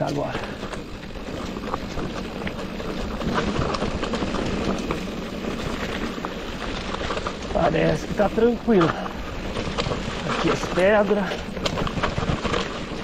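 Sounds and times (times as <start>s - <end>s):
bike rattling and clicking: 0.0s - 13.0s
bike tyres on gravel: 0.0s - 13.0s.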